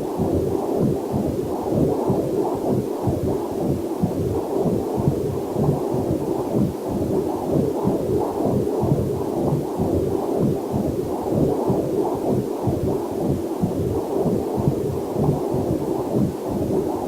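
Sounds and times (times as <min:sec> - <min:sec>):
doppler heartbeat whooshing: 0:00.0 - 0:17.0.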